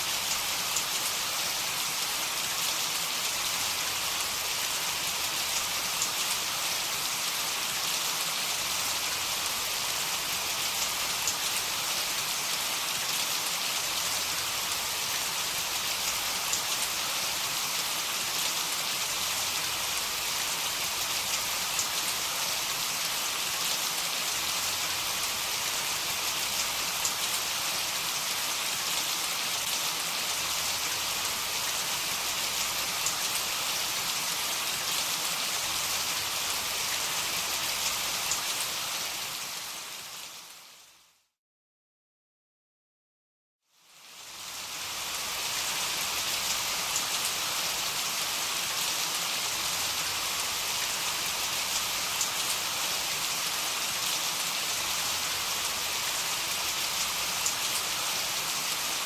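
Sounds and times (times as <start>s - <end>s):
heavy rain falling: 0.1s - 40.6s, 44.2s - 59.0s.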